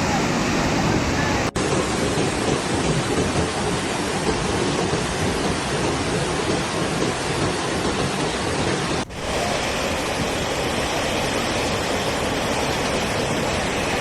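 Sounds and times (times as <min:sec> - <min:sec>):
river water roaring: 0:00.0 - 0:14.0.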